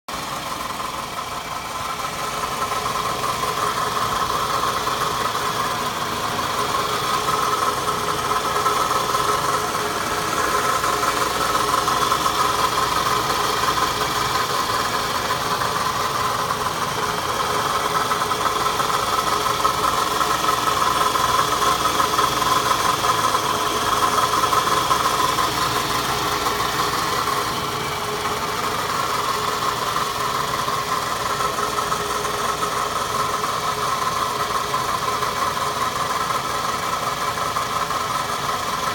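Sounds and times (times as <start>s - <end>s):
car engine running: 0.1s - 38.9s
engine extraneous noise: 0.2s - 38.9s.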